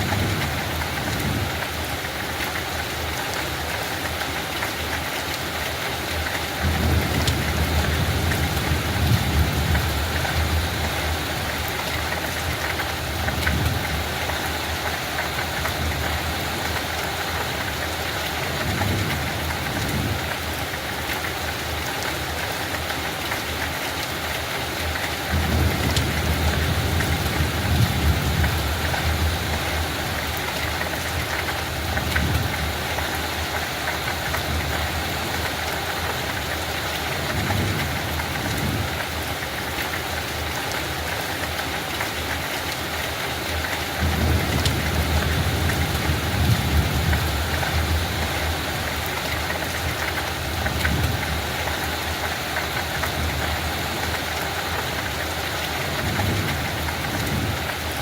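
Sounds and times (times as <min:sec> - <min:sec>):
light rain falling: 0:00.0 - 0:58.0.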